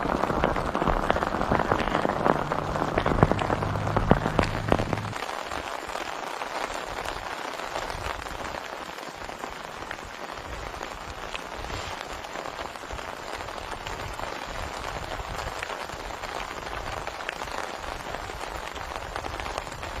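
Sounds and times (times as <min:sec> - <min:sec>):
heavy rain falling: 0:00.0 - 0:20.0
raindrops tapping close by: 0:00.0 - 0:20.0.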